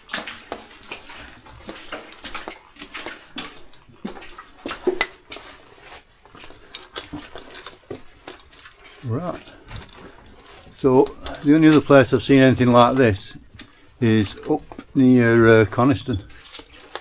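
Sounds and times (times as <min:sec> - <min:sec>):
footsteps on wet stone and slate: 0:00.0 - 0:17.0.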